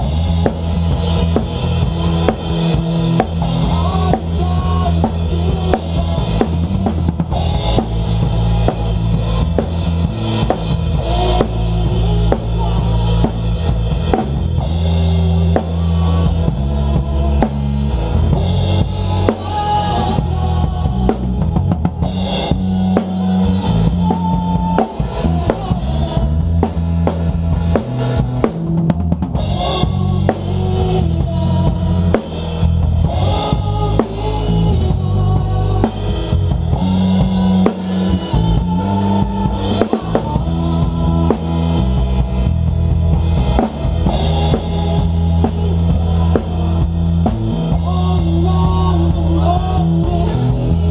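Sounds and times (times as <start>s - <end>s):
drums and cymbals: 0.0s - 50.9s
live band playing: 0.0s - 50.9s
low bass notes: 0.0s - 50.9s.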